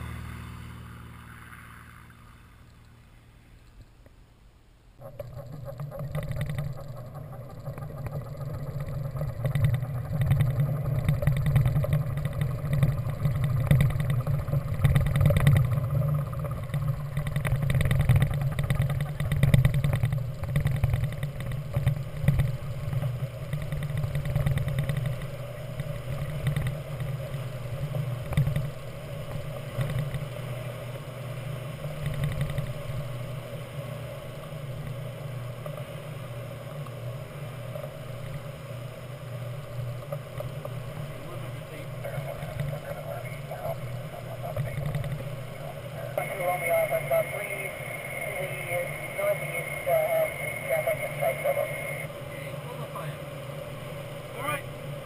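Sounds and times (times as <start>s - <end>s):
glider wheel rumbling on runway: 5.0s - 55.0s
wind and airframe noise: 5.0s - 55.0s.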